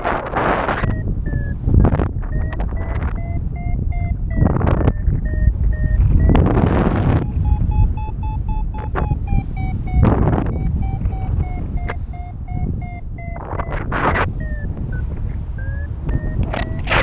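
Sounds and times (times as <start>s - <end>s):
variometer beeping: 0.0s - 17.0s
wind on microphone: 0.0s - 17.0s.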